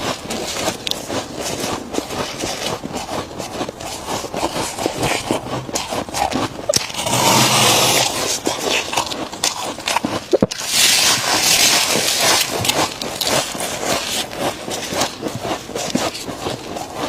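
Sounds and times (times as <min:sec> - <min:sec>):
frost crunched and chewed: 0:00.0 - 0:17.0.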